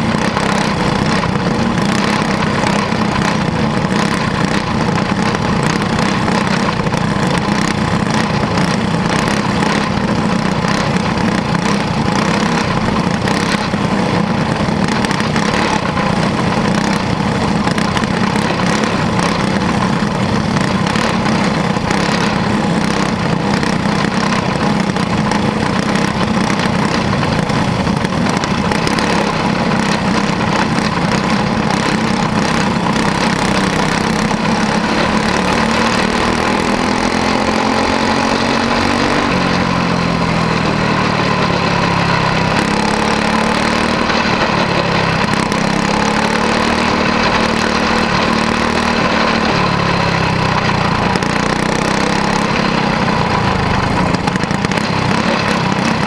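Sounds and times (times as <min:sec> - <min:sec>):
other car engines: 0:00.0 - 0:56.0
small race car engine running: 0:00.0 - 0:56.0.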